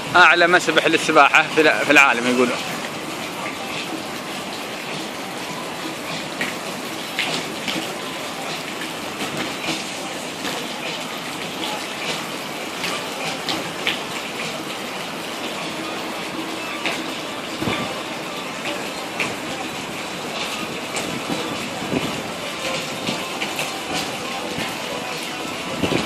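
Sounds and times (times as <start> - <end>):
rush of pool water: 0.0 - 26.0.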